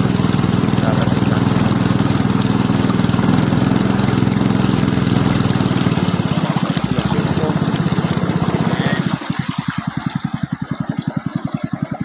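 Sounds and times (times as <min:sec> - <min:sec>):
small boat engine humming: 0:00.0 - 0:12.0.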